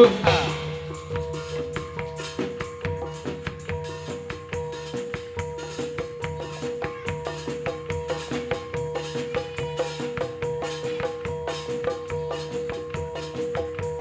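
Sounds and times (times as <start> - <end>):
drums: 0.0 - 14.0
gamelan ensemble playing: 0.0 - 14.0
jingles: 0.0 - 14.0.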